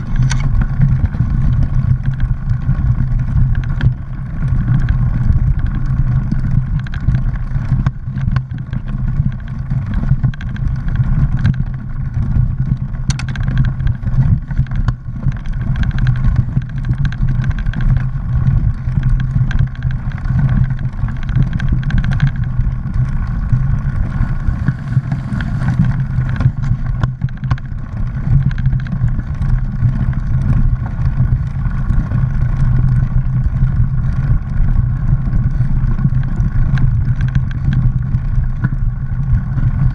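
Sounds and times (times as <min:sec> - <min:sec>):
bike rattles and clicks: 0:00.0 - 0:39.9
tyres rumbling over dirt: 0:00.0 - 0:39.9.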